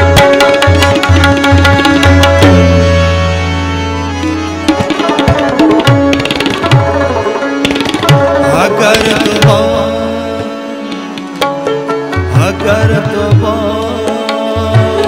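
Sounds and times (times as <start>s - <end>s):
held melodic accompaniment: 0.0s - 15.0s
tabla strokes: 0.0s - 15.0s.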